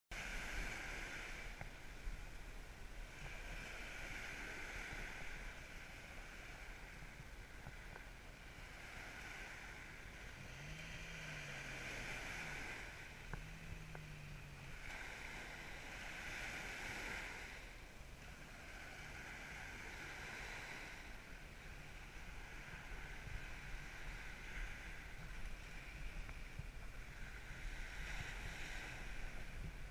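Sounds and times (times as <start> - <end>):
faint vehicle engine: 0.1 - 29.9
surf washing up beach: 0.1 - 29.9
wind rumbling on microphone: 0.1 - 29.9.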